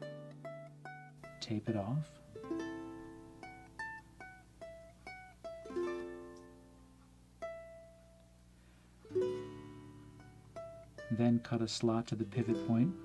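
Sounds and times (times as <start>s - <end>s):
plucked string melody: 0.0s - 8.2s, 9.0s - 13.0s.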